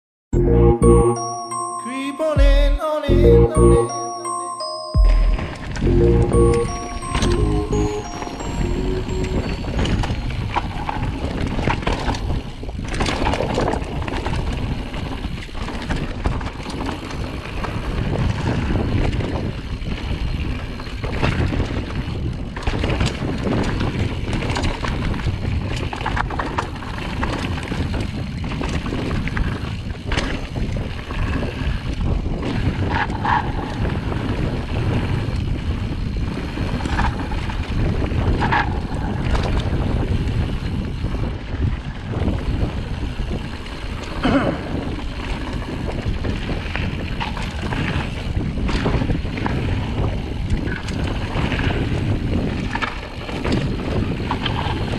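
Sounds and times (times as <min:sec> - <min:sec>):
wind rush on microphone: 0:09.6 - 0:54.9.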